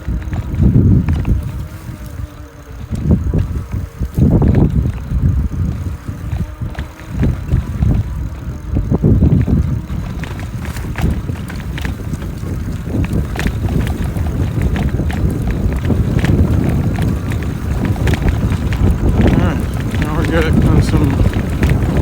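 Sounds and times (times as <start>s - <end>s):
bike rattling over bumps: 0.0s - 22.0s
wind buffeting microphone: 0.0s - 22.0s.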